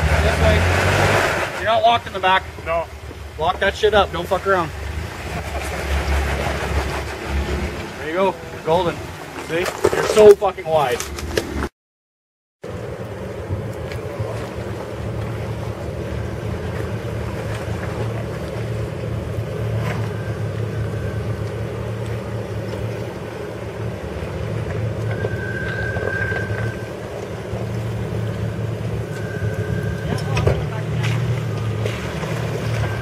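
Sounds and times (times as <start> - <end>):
off-road vehicle engine droning: 0.0 - 11.7, 12.6 - 33.0.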